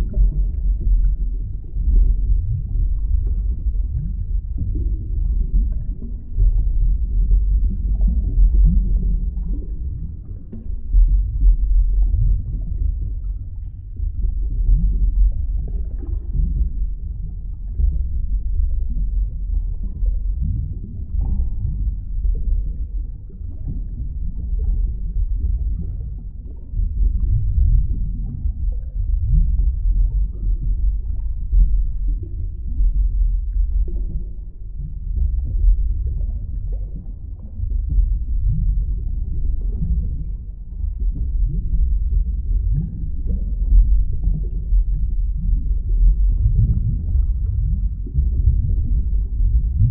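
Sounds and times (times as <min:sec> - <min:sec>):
muffled underwater rumble: 0:00.0 - 0:49.9.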